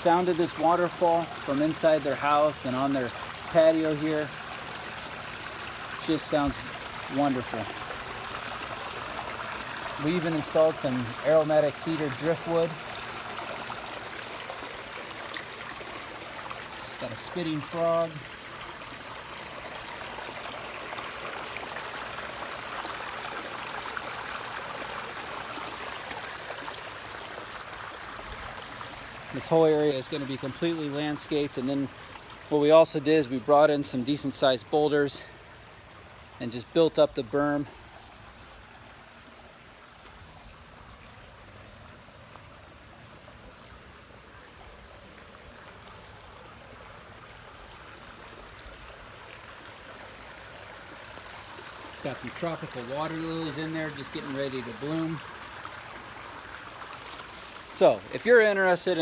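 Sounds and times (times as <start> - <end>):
small waterfall splashing into pond: 0.0 - 59.0.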